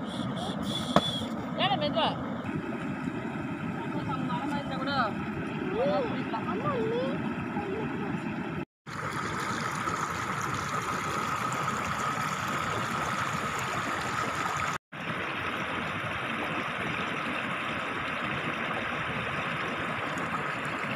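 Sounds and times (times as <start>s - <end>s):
flowing river water: 0.0s - 20.9s.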